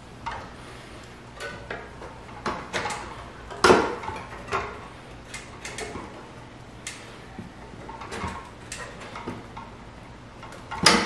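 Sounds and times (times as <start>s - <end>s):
tire levers clicking and knocking: 1.4s - 9.8s, 10.4s - 11.0s.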